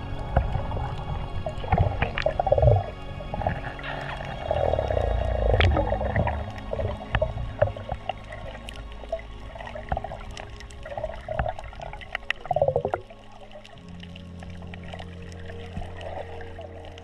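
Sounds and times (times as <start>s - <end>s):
underwater gurgling and bubbling: 0.0s - 17.0s
sharp underwater clicks: 1.6s - 17.0s.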